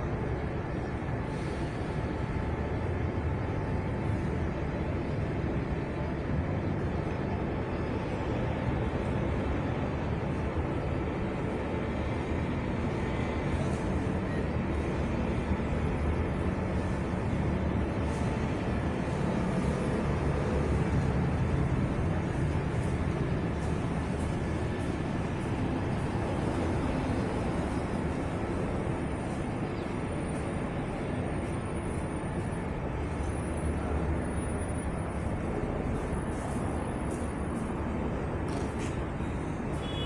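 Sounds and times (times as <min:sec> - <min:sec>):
low city rumble: 0:00.0 - 0:40.0.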